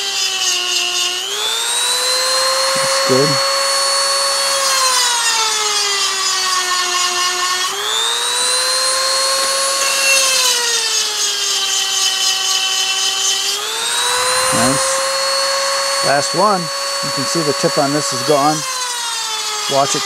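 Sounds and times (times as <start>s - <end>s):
rotary tool grinding metal: 0.0s - 20.0s.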